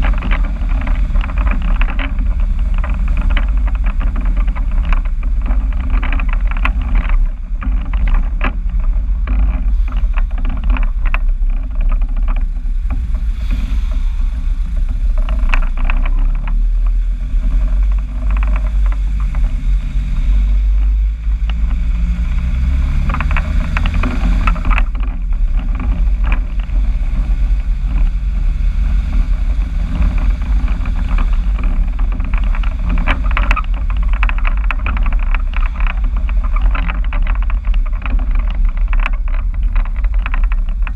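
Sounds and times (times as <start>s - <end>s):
vehicle engine drone through exhaust: 0.0s - 40.9s.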